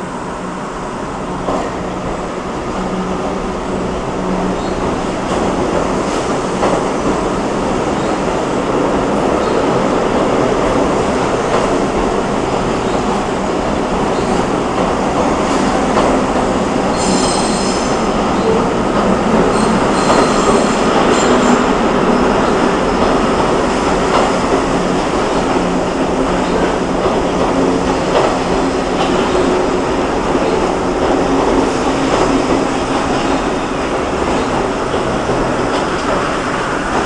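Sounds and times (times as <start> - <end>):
subway wheels rumbling on rails: 0.0 - 37.0.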